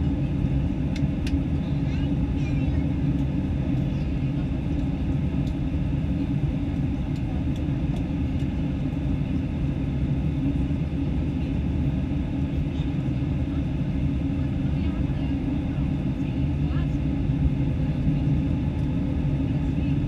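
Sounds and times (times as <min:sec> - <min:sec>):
airplane cabin roar: 0:00.0 - 0:20.0
turbofan engine: 0:00.0 - 0:20.0.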